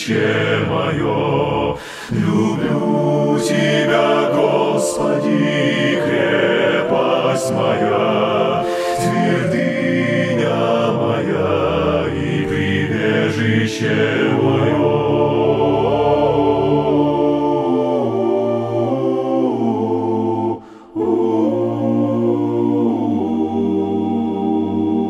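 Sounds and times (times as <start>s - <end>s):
a cappella choir singing: 0.0s - 25.0s.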